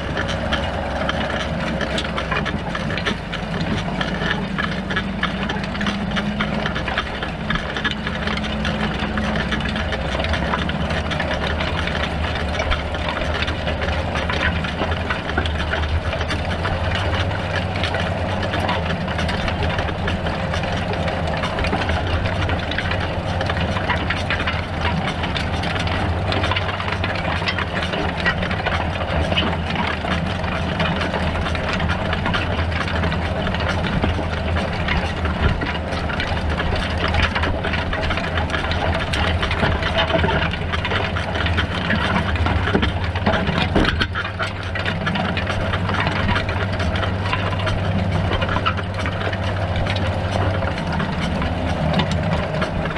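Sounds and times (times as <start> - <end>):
cultivator rattle and clatter: 0.0 - 52.9
tractor diesel engine running: 0.0 - 52.9.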